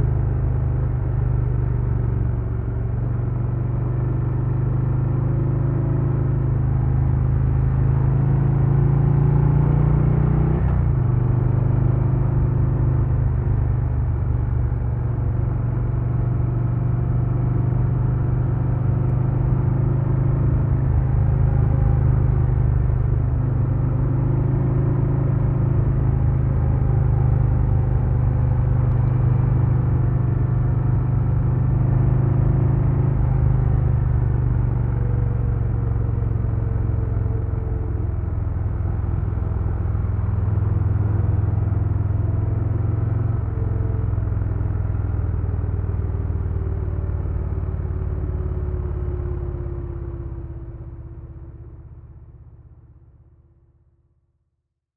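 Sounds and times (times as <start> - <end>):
motorcycle engine running steadily: 0.0 - 10.0, 10.6 - 53.6.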